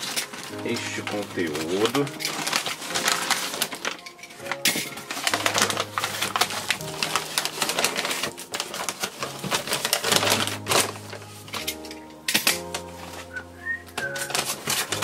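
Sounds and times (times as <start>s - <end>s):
paper wrapping crinkling: 0.0s - 15.0s.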